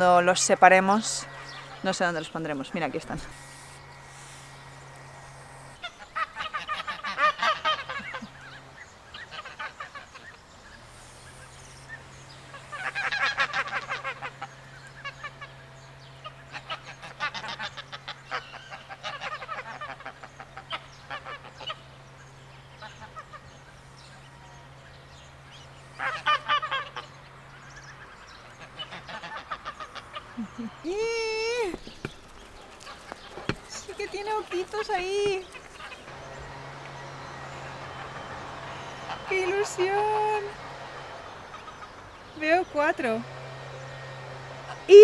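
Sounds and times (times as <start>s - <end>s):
geese honking: 0.0s - 45.0s.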